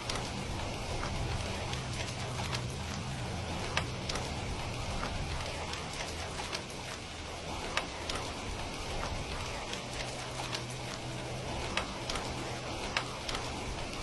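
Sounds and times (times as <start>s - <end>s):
fireplace crackling and popping: 0.0s - 14.0s
steady rain hiss: 0.0s - 14.0s.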